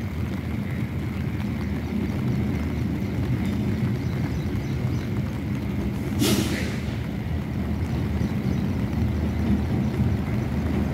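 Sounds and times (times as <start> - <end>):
diesel locomotive rumble: 0.0 - 10.9.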